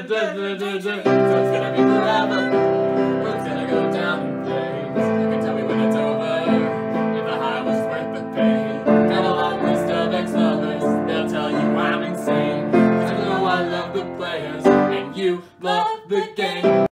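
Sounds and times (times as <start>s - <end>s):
person singing: 0.0s - 16.9s
piano playing chords: 1.0s - 15.2s.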